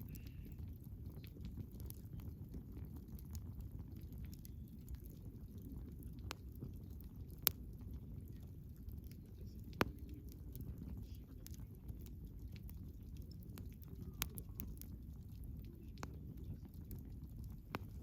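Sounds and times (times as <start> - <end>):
campfire rumbling: 0.0 - 18.0
fire crackling and popping: 0.0 - 18.0.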